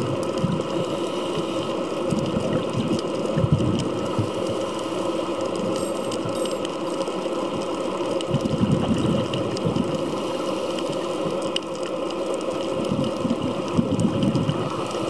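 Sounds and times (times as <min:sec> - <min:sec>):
underwater bubbling: 0:00.0 - 0:15.0
faint clicks: 0:00.1 - 0:15.0.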